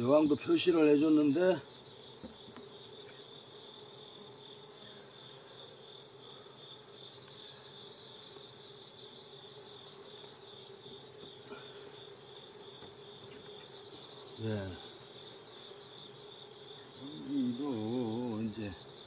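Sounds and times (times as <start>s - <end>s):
crickets chirring: 0.0s - 19.0s
honeybees humming: 0.0s - 19.0s.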